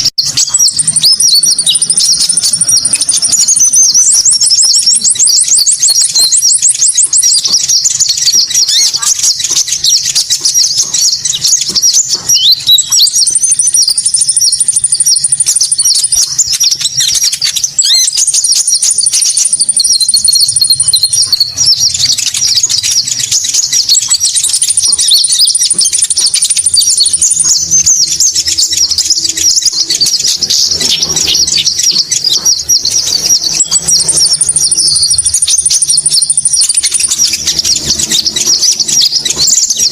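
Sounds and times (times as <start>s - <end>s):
rapid high bird chirping: 0.0s - 39.9s.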